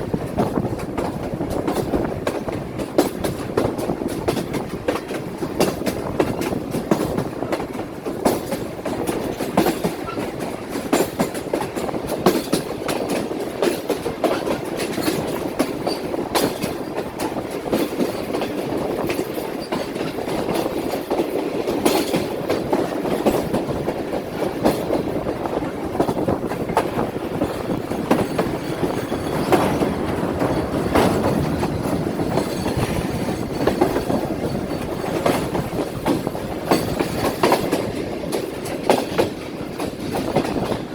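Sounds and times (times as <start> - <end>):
train rumbling: 0.0 - 40.9
wheels clattering over rail joints: 0.0 - 40.9.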